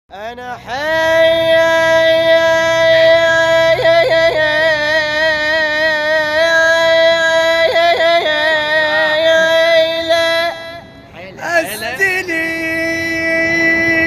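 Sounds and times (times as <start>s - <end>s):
man singing long note: 0.1s - 14.0s.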